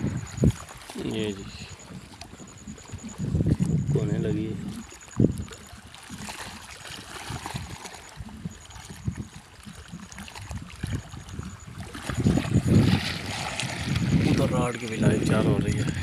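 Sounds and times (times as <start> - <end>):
low buffeting on microphone: 0.0 - 16.0
water running and gurgling: 0.0 - 16.0.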